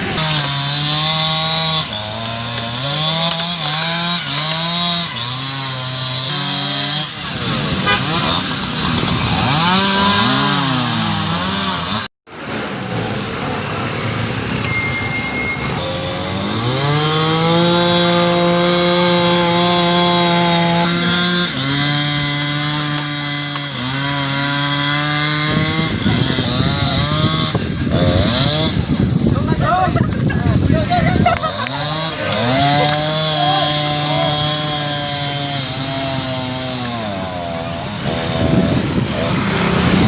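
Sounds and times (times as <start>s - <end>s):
chainsaw cutting wood: 0.0s - 13.6s, 15.6s - 29.6s, 30.2s - 40.0s.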